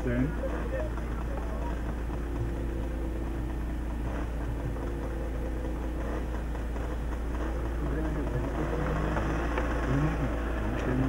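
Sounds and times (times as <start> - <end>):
small two-stroke engine idling: 0.0 - 11.0.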